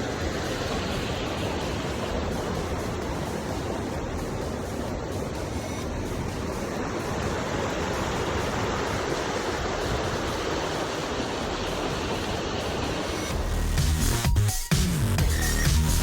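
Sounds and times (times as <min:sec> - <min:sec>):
waterfall rushing: 0:00.0 - 0:14.2
electronic music: 0:00.0 - 0:16.0.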